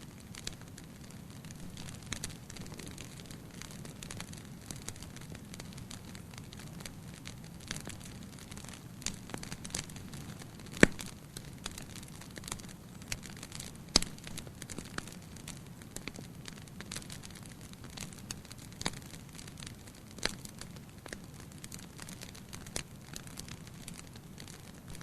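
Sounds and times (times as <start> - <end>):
fire crackling and popping: 0.0 - 25.0.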